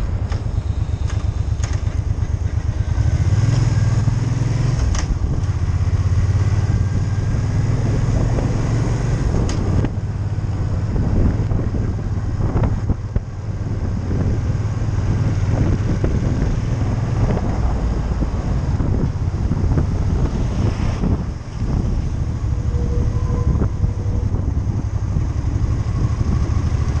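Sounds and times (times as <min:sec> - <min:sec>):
motorcycle engine running: 0:00.0 - 0:27.0
wind rushing over microphone: 0:02.0 - 0:27.0.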